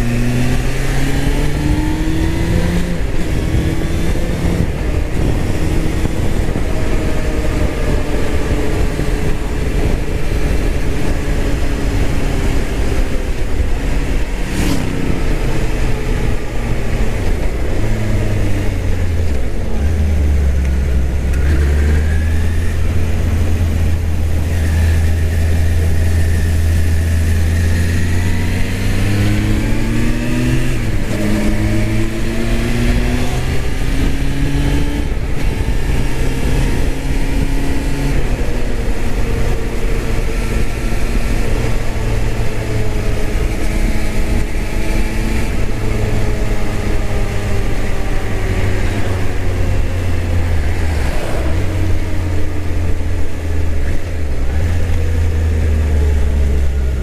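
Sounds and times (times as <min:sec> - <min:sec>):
motorcycle engine shifting gears: 0:00.0 - 0:57.0
wind noise: 0:00.0 - 0:57.0.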